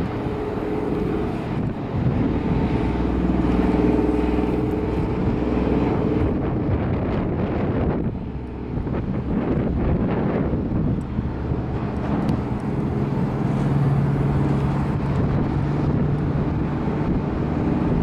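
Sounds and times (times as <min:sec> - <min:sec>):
boat engine droning: 0:00.0 - 0:18.0
wind buffeting microphone: 0:00.0 - 0:18.0.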